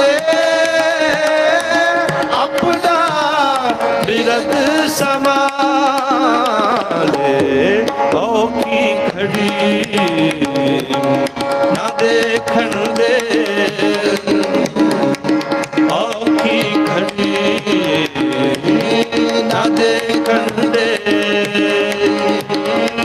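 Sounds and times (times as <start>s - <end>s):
man singing a hymn: 0.0s - 14.8s, 15.9s - 23.0s
harmonium: 0.0s - 23.0s
tabla strokes: 0.0s - 23.0s.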